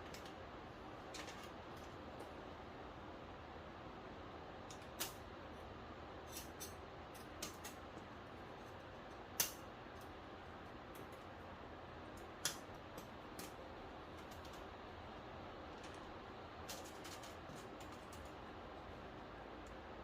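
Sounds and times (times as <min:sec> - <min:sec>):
low background noise: 0:00.0 - 0:20.0.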